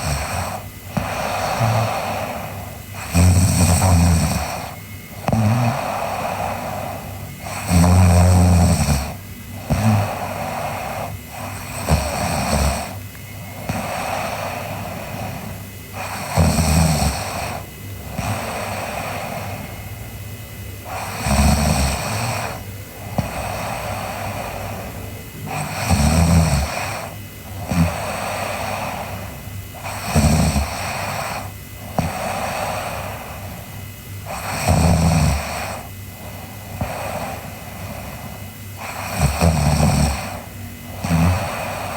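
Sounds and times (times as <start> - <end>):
girl snoring: 0.0 - 19.8, 20.8 - 41.9
breathy hissing: 0.0 - 41.9.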